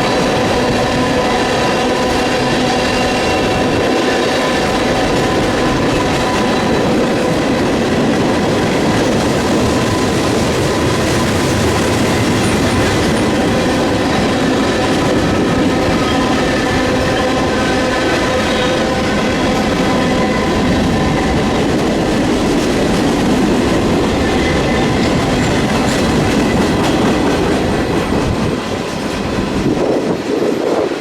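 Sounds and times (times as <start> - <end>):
freight train rumbling: 0.0 - 31.0
train wheels squealing: 0.0 - 31.0.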